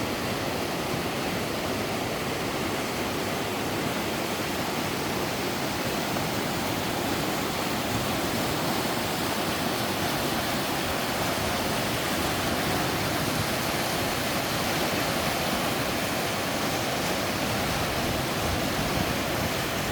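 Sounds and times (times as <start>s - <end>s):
water rushing down rock steps: 0.0s - 19.9s.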